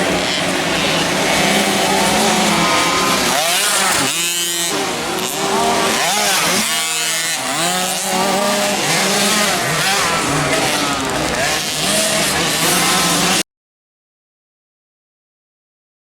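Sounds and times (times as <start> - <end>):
motocross bike engines revving: 0.0 - 13.4.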